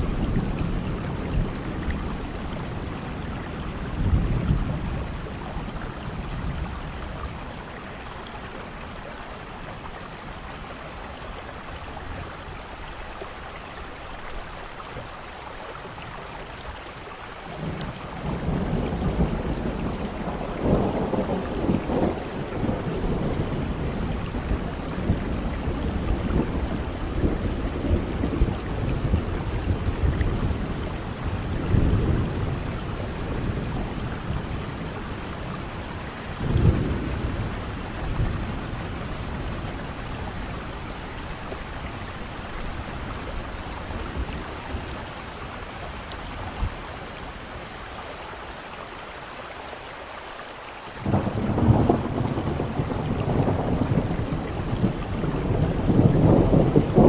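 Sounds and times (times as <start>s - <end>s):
thunder rumbling: 0.0s - 10.4s, 17.5s - 47.5s, 51.0s - 57.0s
heavy rain: 0.0s - 57.0s.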